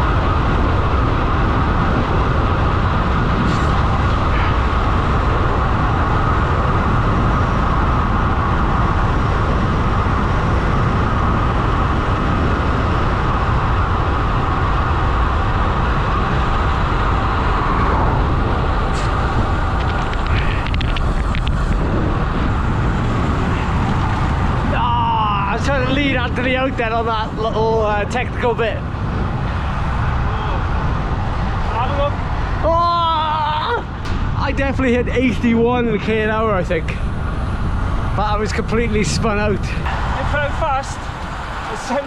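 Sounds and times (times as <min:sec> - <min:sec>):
wind roaring over microphone: 0:00.0 - 0:42.0.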